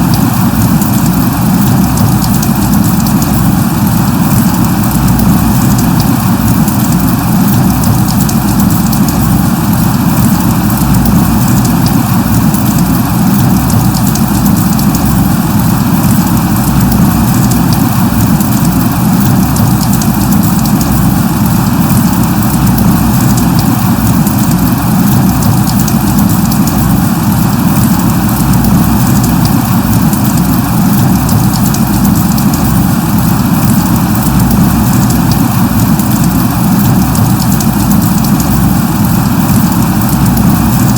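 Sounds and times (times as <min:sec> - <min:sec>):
steady light rain: 0:00.0 - 0:40.9.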